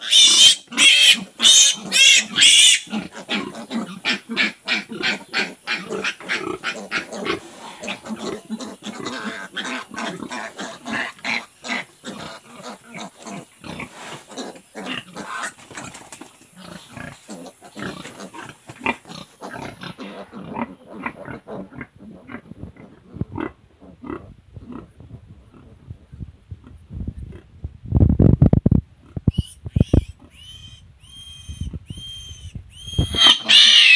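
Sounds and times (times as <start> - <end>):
pigs making rapid calls: 0.0 - 25.6, 29.0 - 33.9.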